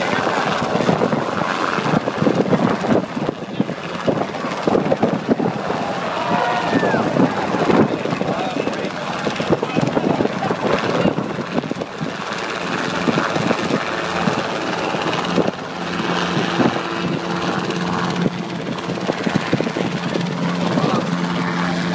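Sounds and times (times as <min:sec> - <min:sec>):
helicopter hovering: 0:00.0 - 0:21.9.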